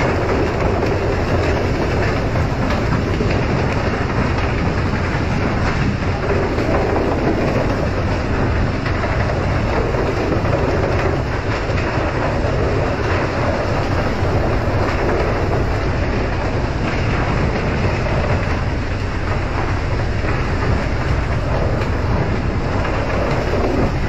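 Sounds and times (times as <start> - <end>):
boat engine drone: 0.0 - 24.0
sea rushing along hull: 0.0 - 24.0.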